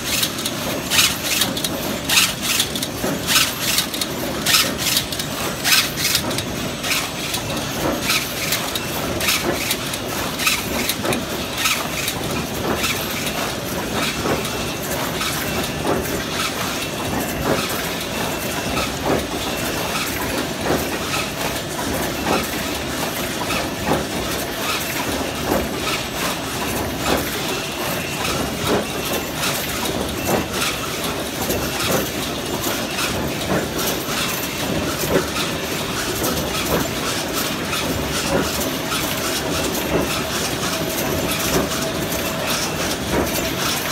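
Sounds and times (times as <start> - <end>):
weaving machine clattering: 0.0 - 43.9.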